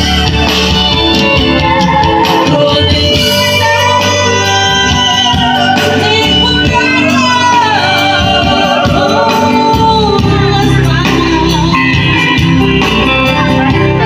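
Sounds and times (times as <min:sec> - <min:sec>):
instrumental backing: 0:00.0 - 0:14.0
person singing into microphone: 0:00.0 - 0:14.0.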